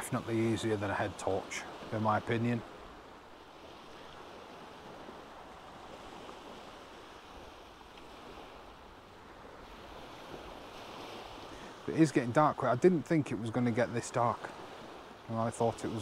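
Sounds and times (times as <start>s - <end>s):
sea surf washing on beach: 0.0s - 16.0s.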